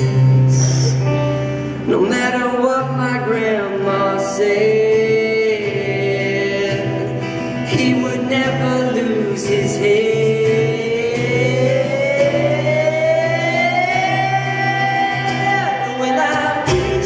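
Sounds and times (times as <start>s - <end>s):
man singing wordless notes: 0.0s - 17.0s
strummed acoustic guitar: 0.0s - 17.0s.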